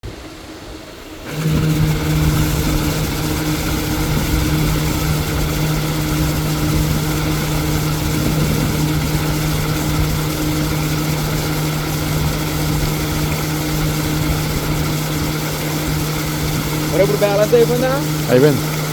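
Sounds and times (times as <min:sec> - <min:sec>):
machine humming: 0:00.1 - 0:18.9.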